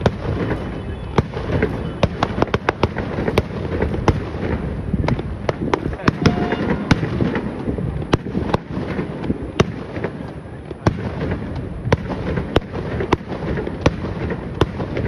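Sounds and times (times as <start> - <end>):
firework shells bursting with bangs: 0.0 - 15.0.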